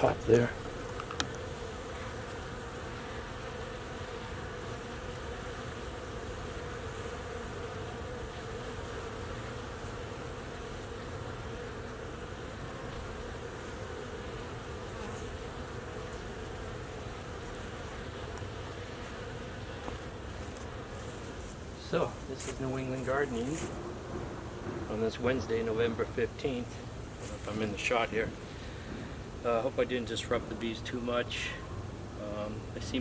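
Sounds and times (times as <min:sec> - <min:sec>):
bee colony humming: 0:00.0 - 0:33.0.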